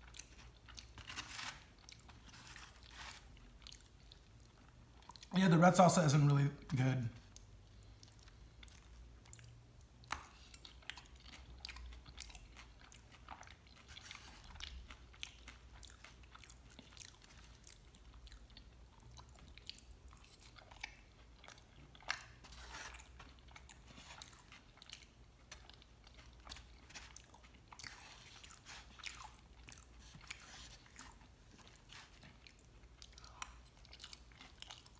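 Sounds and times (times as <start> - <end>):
chewing crunchy chips: 0.0 - 5.4, 7.2 - 34.9.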